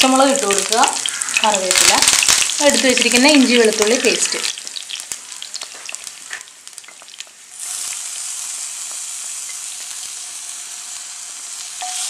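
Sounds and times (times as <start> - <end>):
chillies crackling in hot oil: 0.0 - 12.0
paste sizzling in hot oil: 0.0 - 12.0.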